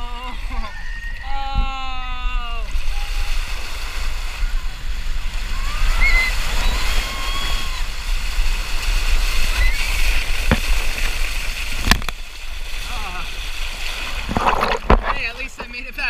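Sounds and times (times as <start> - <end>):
water splashing and rushing: 0.0 - 16.0.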